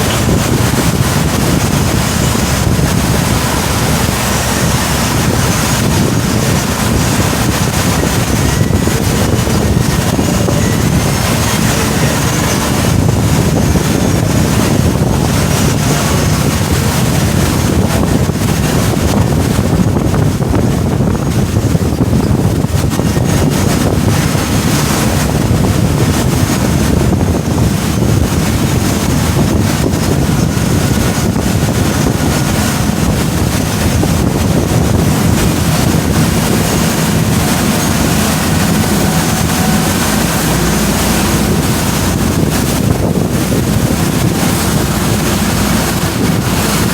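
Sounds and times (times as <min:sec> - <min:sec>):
boat engine running: 0:00.0 - 0:46.9
water washing along hull: 0:00.0 - 0:46.9
wind noise on microphone: 0:00.0 - 0:46.9.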